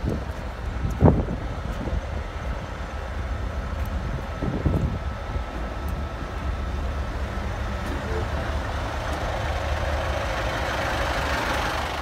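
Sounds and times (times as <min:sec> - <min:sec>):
train coach rushing past: 0:00.0 - 0:12.0
train diesel engine drone: 0:00.0 - 0:12.0.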